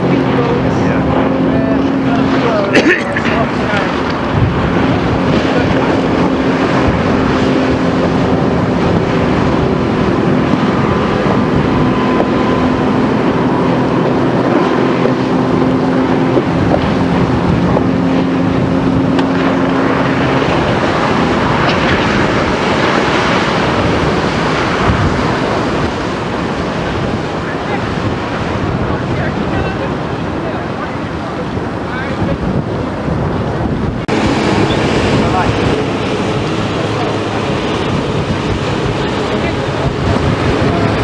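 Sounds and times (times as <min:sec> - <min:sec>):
speedboat engine drone: 0:00.0 - 0:41.0
water noise: 0:00.0 - 0:41.0
wind noise on microphone: 0:00.0 - 0:41.0.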